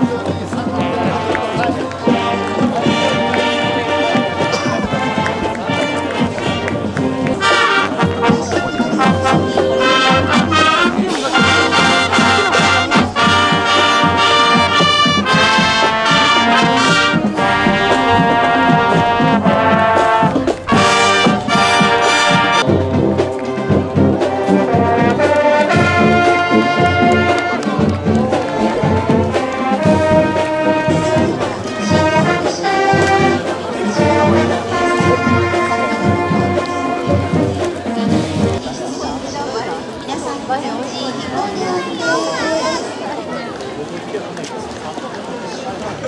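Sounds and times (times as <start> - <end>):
brass band playing held notes: 0.0 - 41.0.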